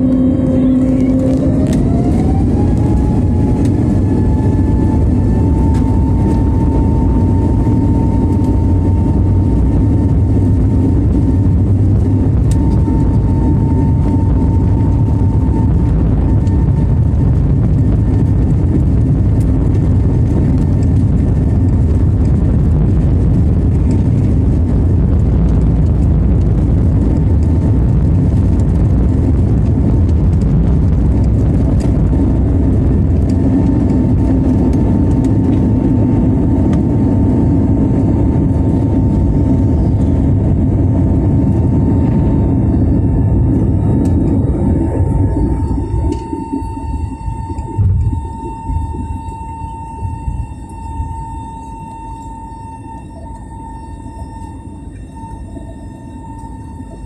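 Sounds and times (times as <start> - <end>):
jet engine and runway rumble: 0.0 - 57.0
jet engine whine: 0.0 - 57.0.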